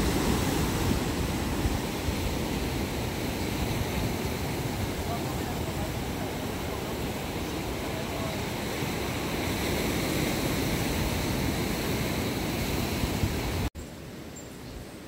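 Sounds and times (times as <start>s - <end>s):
surf washing over rocks: 0.0s - 13.7s.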